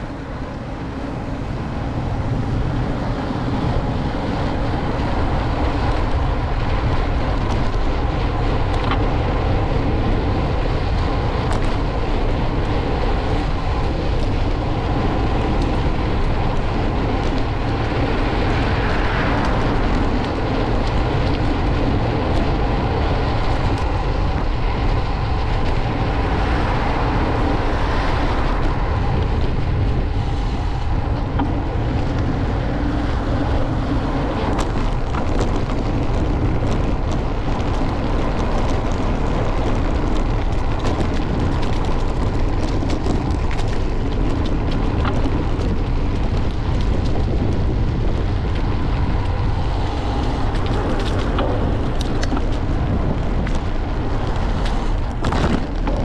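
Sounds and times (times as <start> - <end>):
city traffic noise: 0.0 - 56.0
wind rumble: 0.0 - 56.0.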